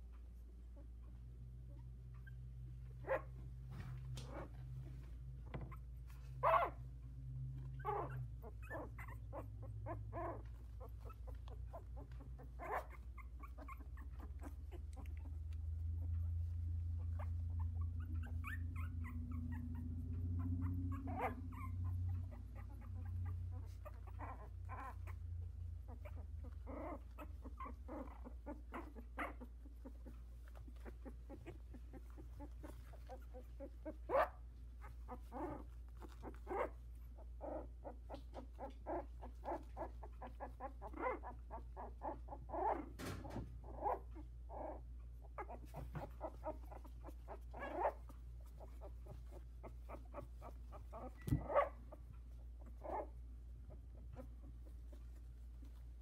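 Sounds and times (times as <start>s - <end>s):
puppies whimpering and squeaking: 0.4s - 56.0s.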